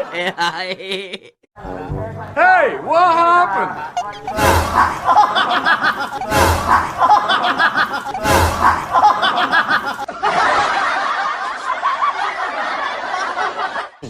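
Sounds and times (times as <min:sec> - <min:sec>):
people laughing: 0:00.0 - 0:01.4, 0:03.5 - 0:14.0.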